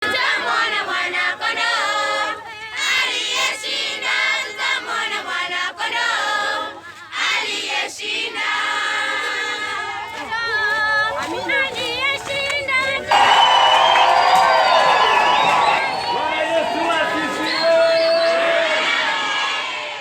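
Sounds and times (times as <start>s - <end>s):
choir singing: 0.0s - 10.2s, 13.1s - 20.0s.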